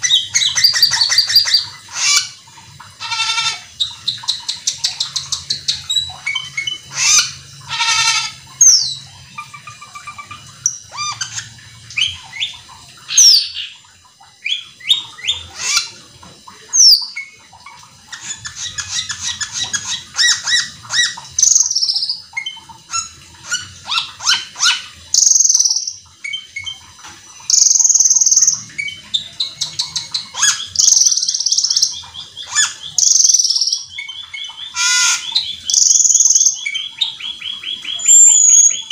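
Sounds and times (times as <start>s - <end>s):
starling singing: 3.0s - 16.0s, 18.1s - 26.8s, 27.4s - 38.9s.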